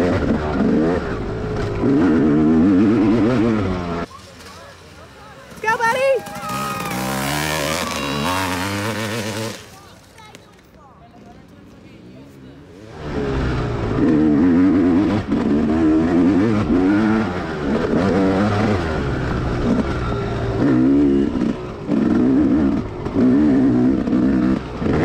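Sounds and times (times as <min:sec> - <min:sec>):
dirt bike engine revving: 0:00.0 - 0:04.1, 0:05.1 - 0:10.1, 0:12.8 - 0:25.0.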